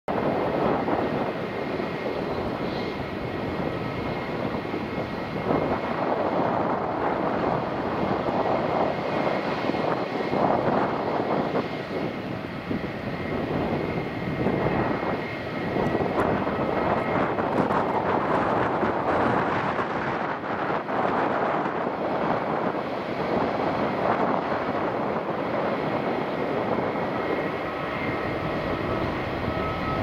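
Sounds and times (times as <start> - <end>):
jet engines rumbling: 0.1 - 30.0.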